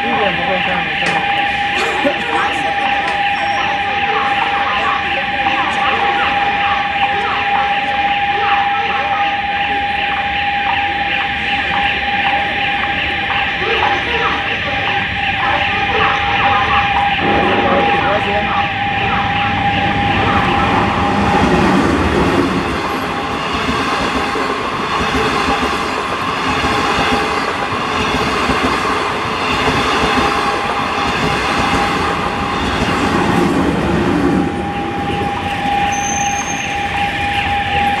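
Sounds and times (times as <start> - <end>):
level crossing alarm tone: 0.0 - 38.0.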